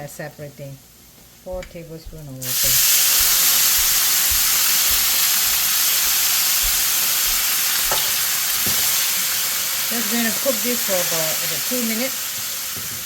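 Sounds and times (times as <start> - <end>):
onions sizzling in hot oil: 2.4 - 13.0.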